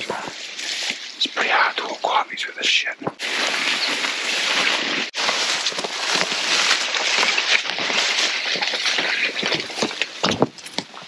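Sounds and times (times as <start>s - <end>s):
grass and leaves rustling: 0.0s - 11.0s.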